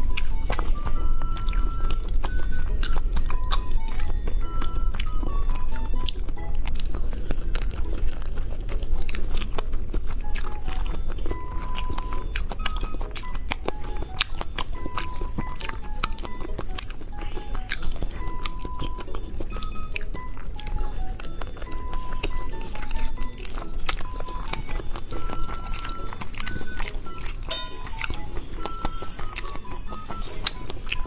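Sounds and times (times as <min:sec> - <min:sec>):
light background music: 0:00.0 - 0:31.0
wet chewing and biting: 0:00.0 - 0:31.0.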